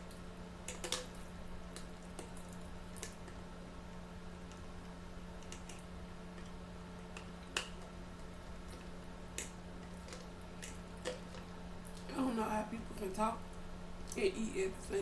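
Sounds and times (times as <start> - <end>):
quiet eating sounds: 0.0 - 15.0.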